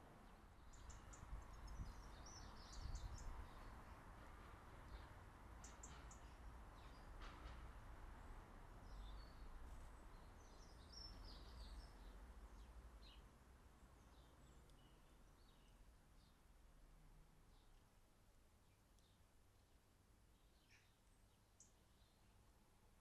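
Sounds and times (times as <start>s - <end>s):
small birds chirping: 0.2s - 7.2s, 8.8s - 16.5s, 17.4s - 22.5s.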